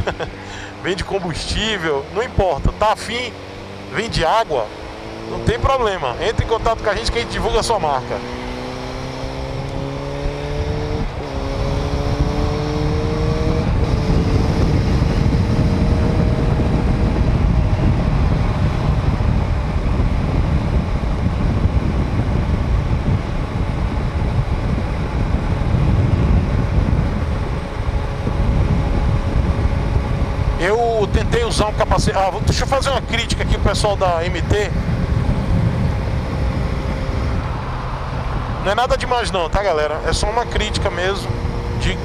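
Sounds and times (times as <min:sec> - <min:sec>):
motorcycle engine accelerating: 0:00.0 - 0:42.0
wind rush on microphone: 0:00.0 - 0:42.0.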